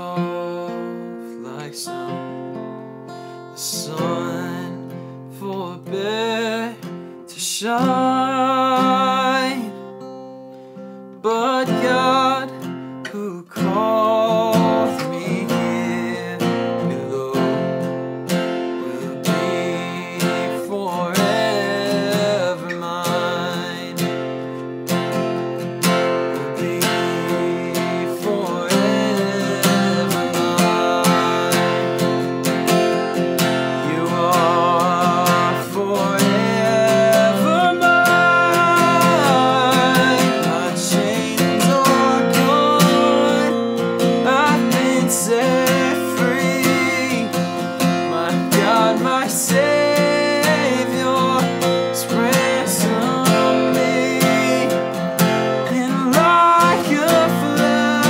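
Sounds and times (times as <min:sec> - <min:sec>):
man singing: 0:00.0 - 0:02.6, 0:03.5 - 0:10.0, 0:11.2 - 0:58.0
strummed acoustic guitar: 0:00.0 - 0:58.0.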